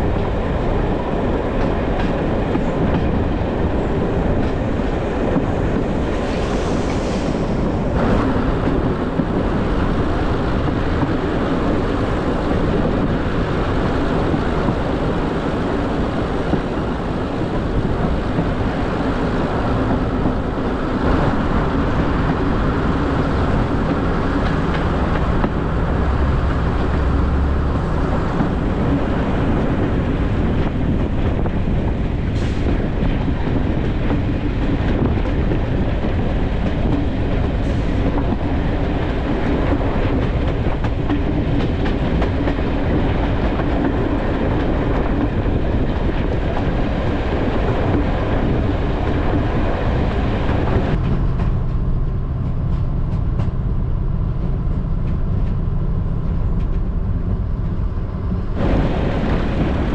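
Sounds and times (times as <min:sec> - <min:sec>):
wheels rumbling on track: 0:00.0 - 0:59.9.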